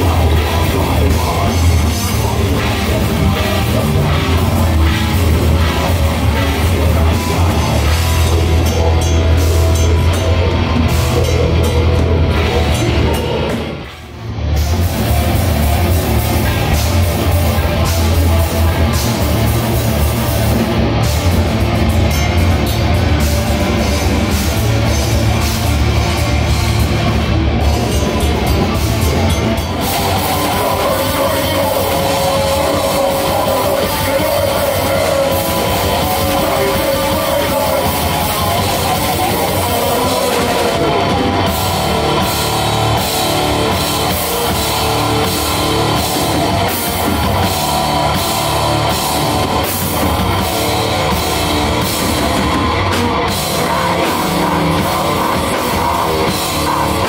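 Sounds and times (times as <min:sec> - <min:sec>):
bass guitar: 0:00.0 - 0:57.0
distorted electric guitars: 0:00.0 - 0:57.0
drums playing: 0:00.0 - 0:57.0.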